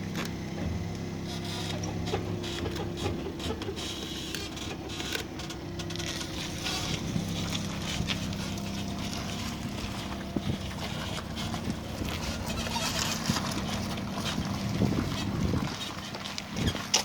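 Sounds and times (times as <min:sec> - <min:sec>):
car engine humming: 0:00.0 - 0:17.0
clicking and knocking noises: 0:00.0 - 0:17.0.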